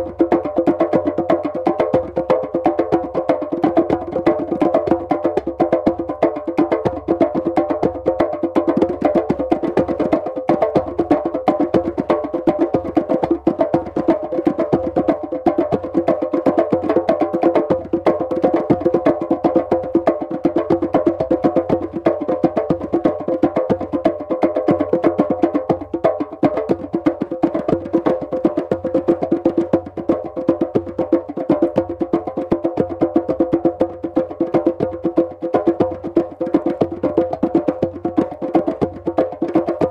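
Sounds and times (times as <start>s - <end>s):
djembes played by hand: 0.0s - 39.9s.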